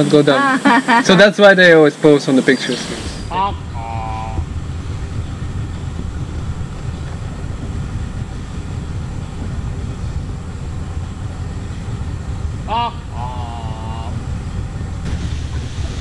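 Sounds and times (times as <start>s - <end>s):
outboard motor running: 2.7s - 16.0s.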